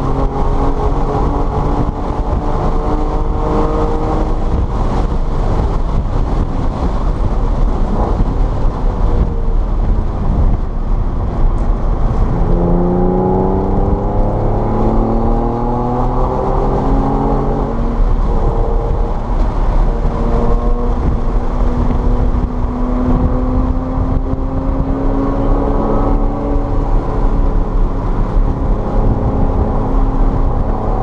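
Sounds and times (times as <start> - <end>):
car engine accelerating: 0.0 - 31.0
road and wind noise: 0.0 - 31.0.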